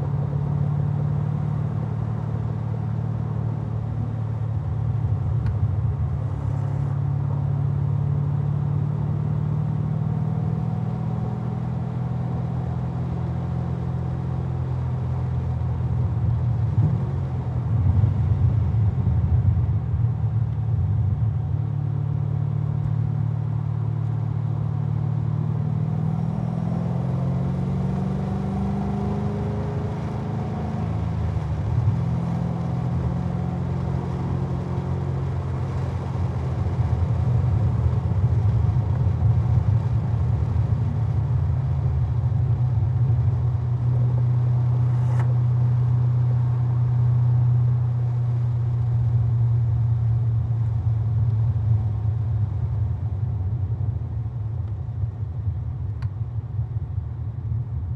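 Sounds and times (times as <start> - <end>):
sports car engine running hard: 0.0 - 57.9.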